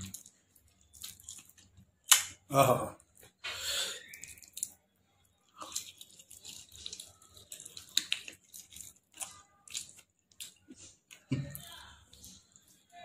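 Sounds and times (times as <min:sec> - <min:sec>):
chewing: 0:00.0 - 0:02.2, 0:04.0 - 0:12.9.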